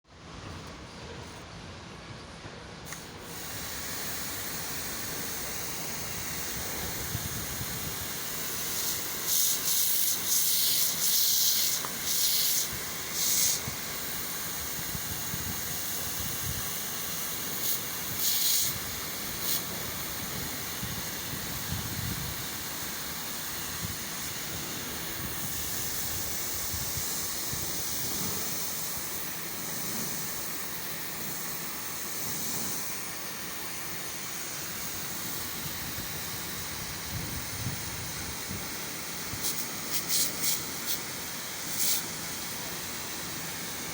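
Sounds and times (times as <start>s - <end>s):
faint high whine: 0.1s - 43.9s
pressure washer spraying: 2.9s - 43.9s.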